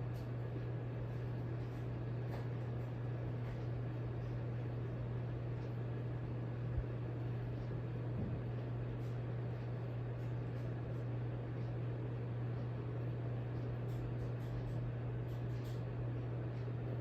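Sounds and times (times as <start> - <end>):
ceiling fan motor humming: 0.0 - 17.0.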